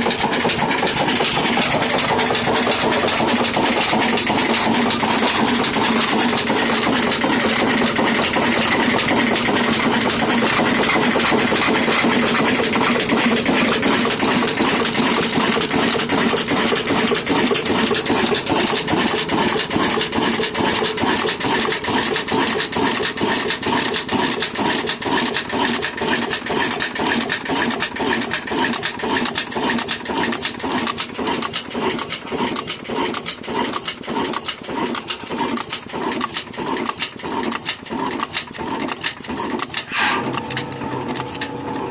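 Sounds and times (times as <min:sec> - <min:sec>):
diesel engine running: 0:00.0 - 0:33.8, 0:38.3 - 0:41.9.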